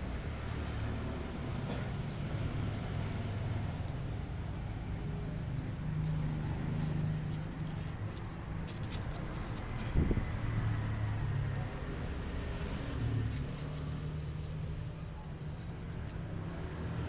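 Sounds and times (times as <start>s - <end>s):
kitten claws scratching stick: 0.0s - 17.0s.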